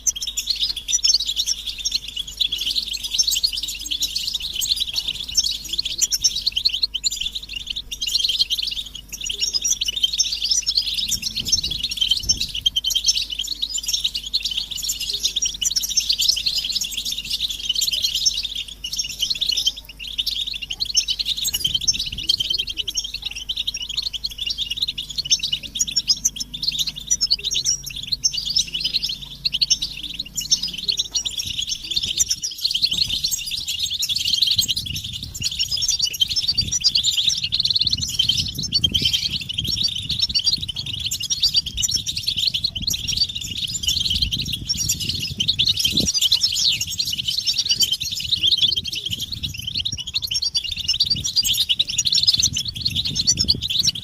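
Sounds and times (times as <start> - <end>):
finches twittering and chirping: 0.0 - 54.0.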